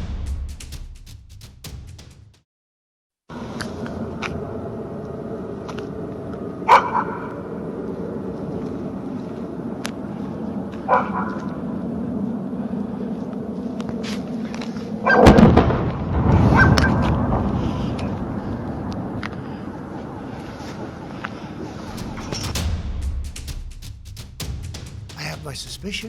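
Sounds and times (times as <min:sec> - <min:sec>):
background rumble and hum: 0:03.3 - 0:26.0.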